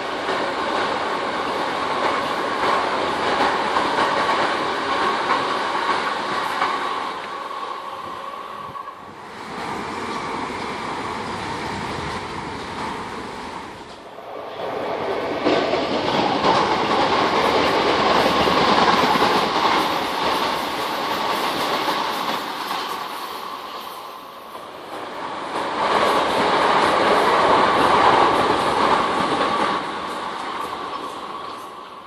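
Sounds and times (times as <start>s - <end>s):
train wheels rushing on rail: 0.0s - 32.0s.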